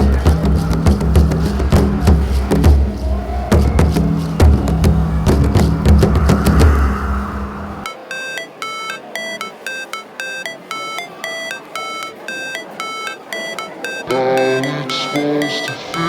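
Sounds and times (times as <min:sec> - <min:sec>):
plinking synth music: 0:00.0 - 0:16.0.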